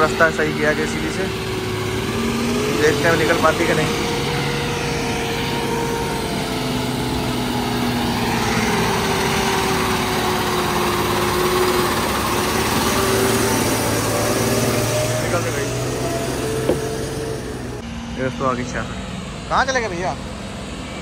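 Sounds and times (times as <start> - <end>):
truck engine under load: 0.0 - 20.9.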